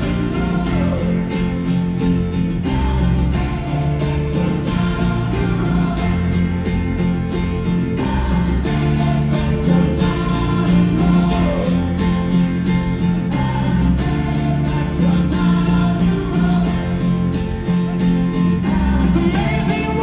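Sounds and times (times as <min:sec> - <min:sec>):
person singing: 0:00.0 - 0:01.8, 0:02.5 - 0:20.0
live rock band: 0:00.0 - 0:20.0.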